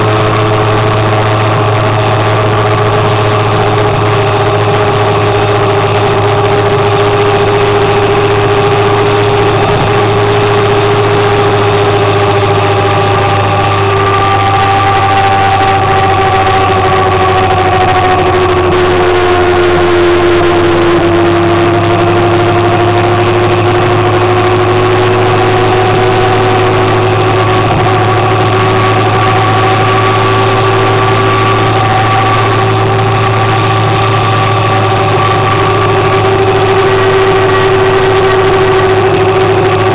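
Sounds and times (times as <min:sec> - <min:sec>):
low drone: 0:00.0 - 0:39.9
motor scooter engine running: 0:00.0 - 0:39.9.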